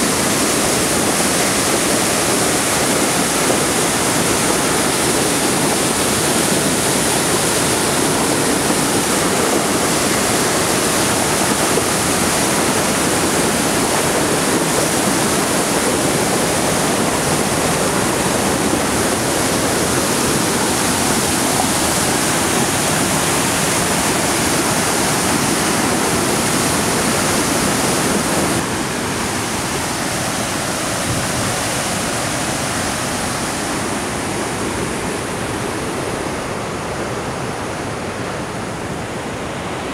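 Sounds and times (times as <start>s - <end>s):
river rushing over boulders: 0.0s - 39.9s.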